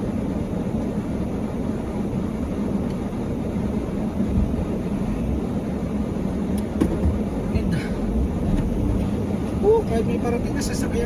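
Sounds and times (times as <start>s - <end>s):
car engine rumbling under load: 0.0s - 11.0s.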